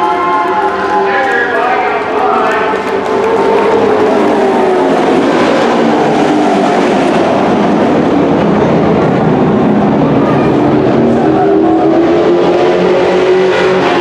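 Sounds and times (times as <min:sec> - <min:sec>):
race truck engines running hard: 0:00.0 - 0:14.0.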